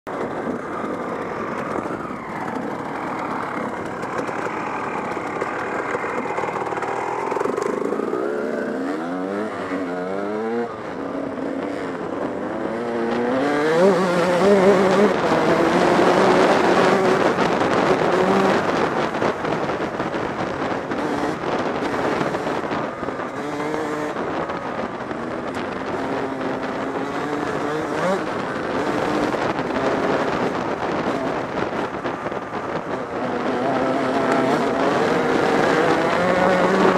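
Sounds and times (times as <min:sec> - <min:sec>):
dirt bike engine revving: 0:00.4 - 0:36.9.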